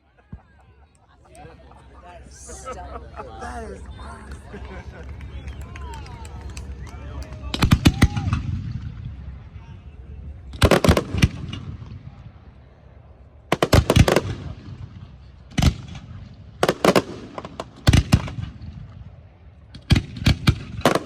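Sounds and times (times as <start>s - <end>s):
fireworks reports: 0.3s - 21.0s.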